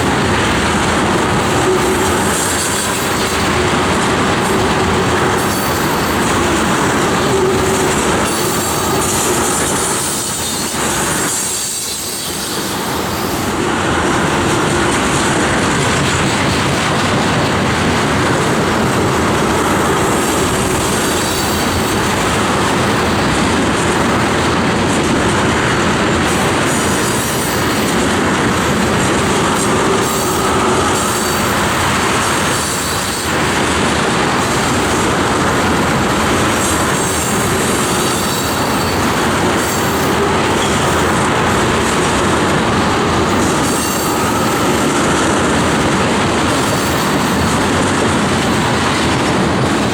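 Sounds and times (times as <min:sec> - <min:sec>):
freight train rumble: 0:00.0 - 0:49.9
train wheels clicking over rail joints: 0:00.0 - 0:49.9.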